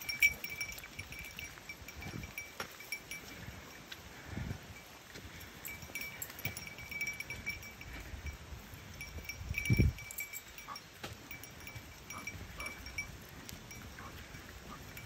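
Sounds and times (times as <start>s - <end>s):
small bell jingling: 0.0s - 15.0s.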